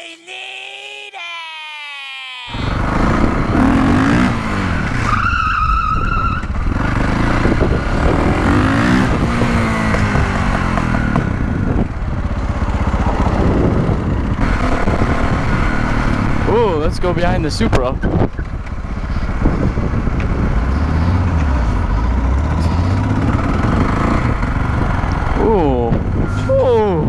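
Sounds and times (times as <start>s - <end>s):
dirt bike engine accelerating: 2.6s - 27.0s.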